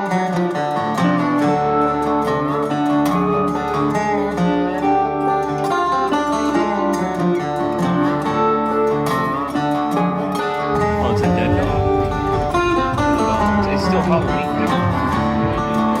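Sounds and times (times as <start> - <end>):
country music with guitar: 0.0 - 16.0.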